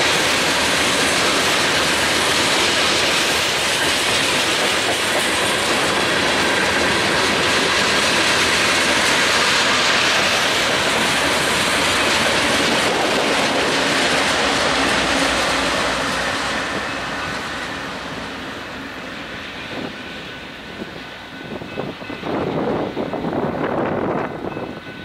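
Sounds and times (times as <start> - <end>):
diesel locomotive passing: 0.0 - 25.0
freight train rolling past: 0.0 - 25.0
steel wheels running over rails: 0.0 - 25.0.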